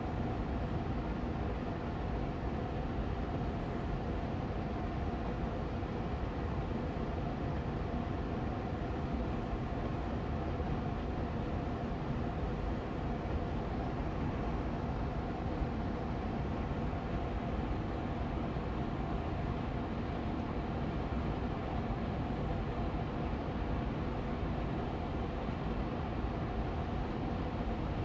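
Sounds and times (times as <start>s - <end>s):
air purifier fan whooshing: 0.0s - 28.0s
faint steady hum: 0.0s - 28.0s.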